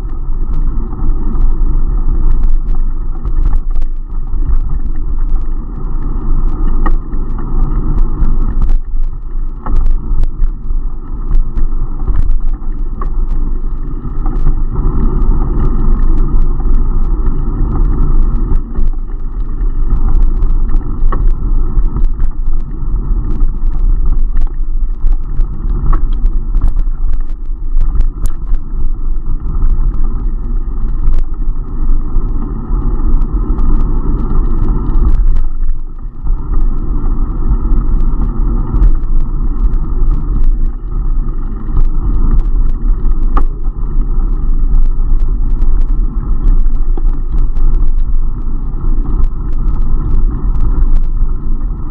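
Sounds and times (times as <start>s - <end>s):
wind rumble on microphone: 0.0s - 51.9s
bike rattles and clicks: 2.5s - 51.9s.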